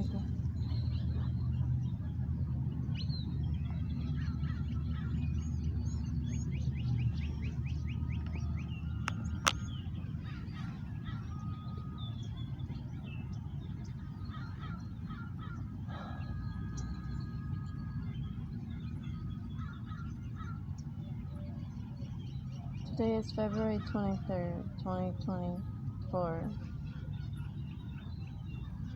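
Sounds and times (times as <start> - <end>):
birds chirping: 0.0 - 28.9
low steady rumble: 0.0 - 28.9.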